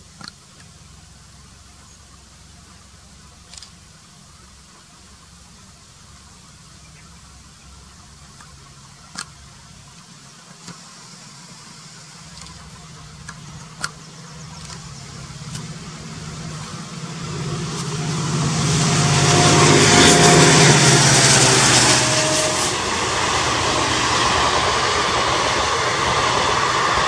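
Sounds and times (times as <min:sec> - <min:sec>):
diesel locomotive engine drone: 0:00.0 - 0:27.0
wheel-on-rail noise: 0:00.0 - 0:27.0.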